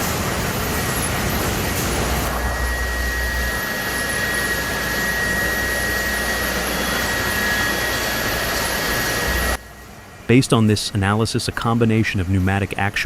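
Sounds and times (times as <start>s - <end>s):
high machinery whine: 0.0s - 13.0s
machinery roar: 0.0s - 13.0s.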